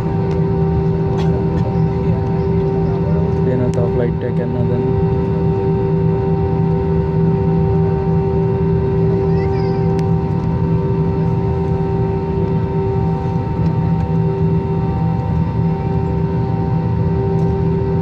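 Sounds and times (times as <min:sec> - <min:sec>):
airplane cabin engine hum: 0:00.0 - 0:18.0.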